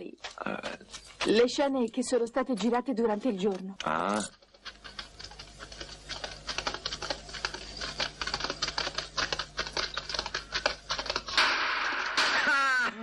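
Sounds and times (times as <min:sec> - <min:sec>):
motor hum: 0:00.2 - 0:12.2.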